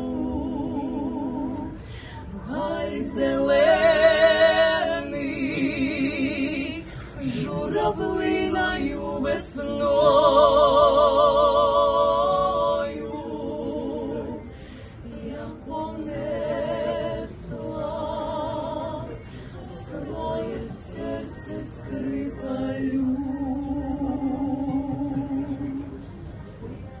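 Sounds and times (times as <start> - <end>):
women singing a cappella: 0.0 - 26.1.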